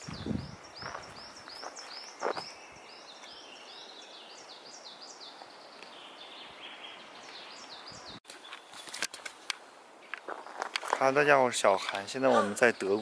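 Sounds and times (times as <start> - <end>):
songbird singing: 0.0 - 13.0
wind rustling trees: 0.0 - 13.0.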